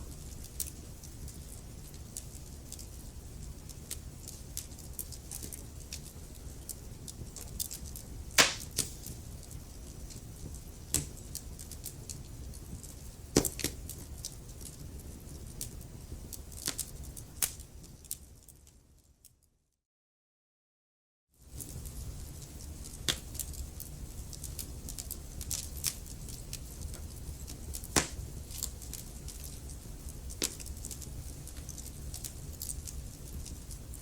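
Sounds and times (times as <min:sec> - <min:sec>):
wood fire crackling: 0:00.0 - 0:18.8, 0:21.4 - 0:34.0.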